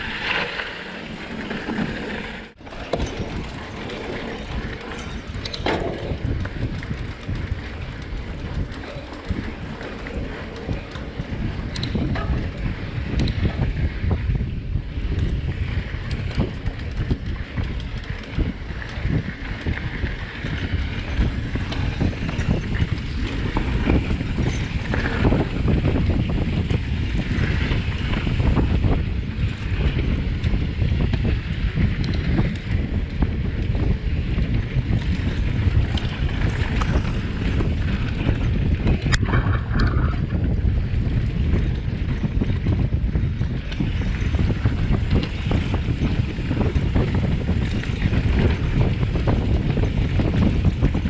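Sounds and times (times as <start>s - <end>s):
bike rattling over bumps: 0.0s - 51.0s
bike tyres rumbling on dirt: 0.0s - 51.0s
wind buffeting microphone: 0.0s - 51.0s.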